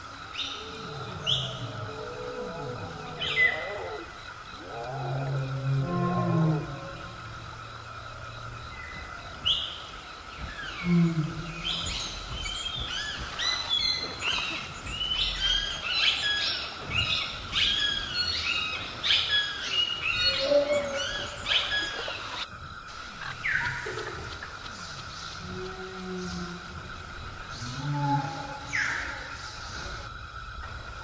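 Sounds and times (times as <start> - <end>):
birds chirping: 0.0 - 30.1.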